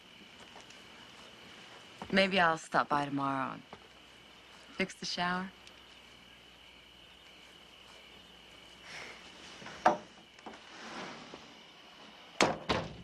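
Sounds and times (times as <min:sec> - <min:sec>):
crickets trilling: 0:00.0 - 0:13.0
soft rustling: 0:00.1 - 0:02.6, 0:03.6 - 0:11.7.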